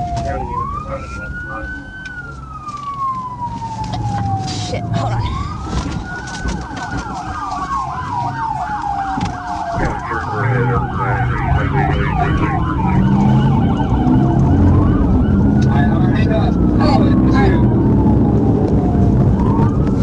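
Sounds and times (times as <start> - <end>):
car engine and road noise: 0.0 - 20.0
police siren wailing: 0.0 - 20.0
police siren yelp: 0.0 - 20.0.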